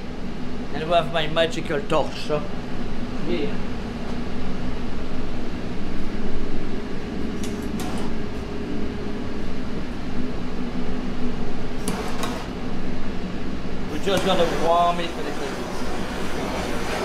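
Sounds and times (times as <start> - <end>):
kitchen ventilation hum: 0.0 - 17.0.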